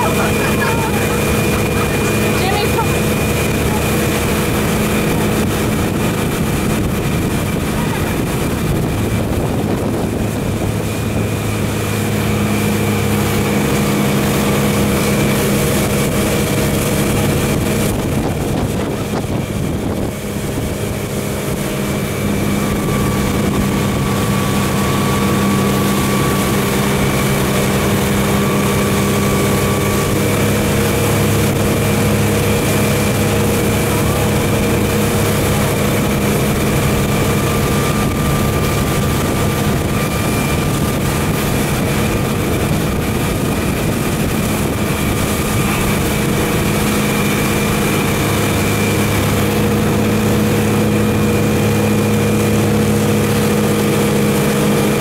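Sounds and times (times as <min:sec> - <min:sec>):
motorboat engine running: 0:00.0 - 0:55.0
wind noise on microphone: 0:00.0 - 0:55.0.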